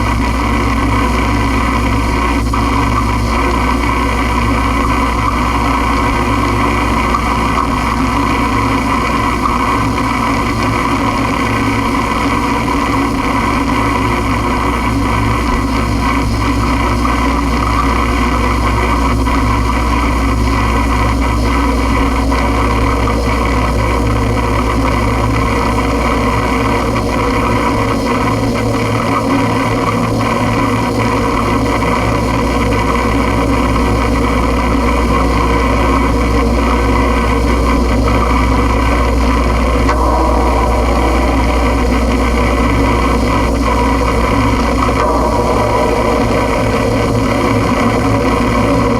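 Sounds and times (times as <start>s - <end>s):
noise music drone: 0.0s - 48.9s.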